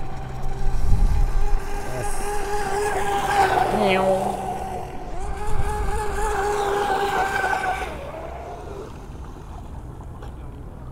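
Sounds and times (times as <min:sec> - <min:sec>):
electric boat motor whining: 0:00.0 - 0:10.0.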